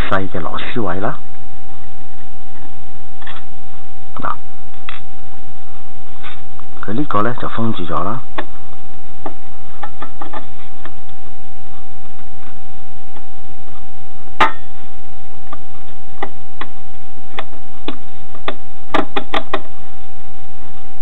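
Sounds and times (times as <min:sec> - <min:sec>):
low hum: 0:00.0 - 0:21.0
thin constant tone: 0:00.0 - 0:21.0.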